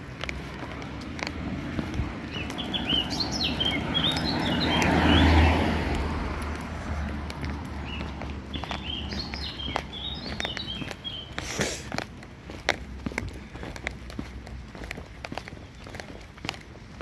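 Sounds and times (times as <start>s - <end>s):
car passing: 0.0s - 15.7s
small birds chirping: 0.0s - 17.0s.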